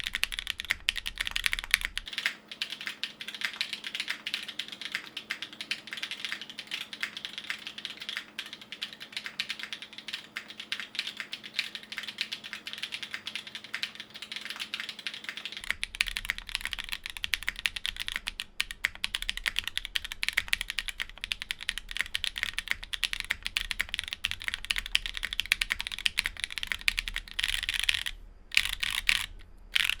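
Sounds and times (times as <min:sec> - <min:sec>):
fast mechanical keyboard typing: 0:00.0 - 0:30.0
low steady hum: 0:00.0 - 0:30.0.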